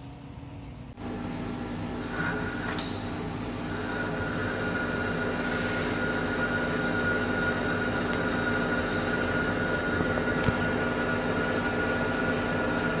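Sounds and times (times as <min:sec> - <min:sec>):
high whine of cutting: 0:01.0 - 0:13.0
lathe machine hum: 0:01.0 - 0:13.0.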